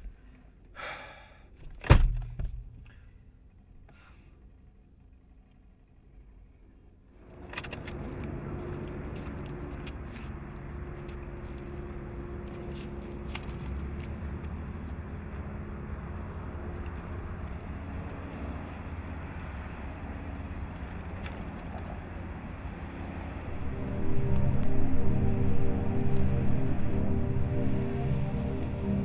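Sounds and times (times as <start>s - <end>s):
outdoor background rumble: 0.0s - 29.0s.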